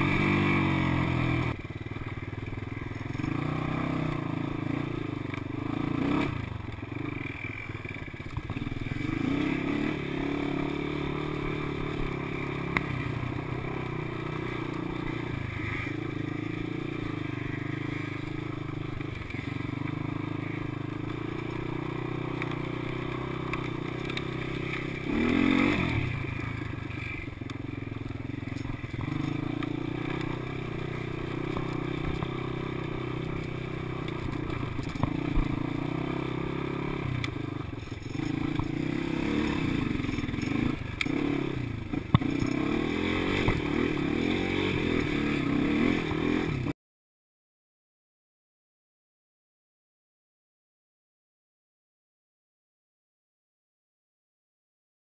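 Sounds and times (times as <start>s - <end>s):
quad bike engine running: 0.0s - 46.8s.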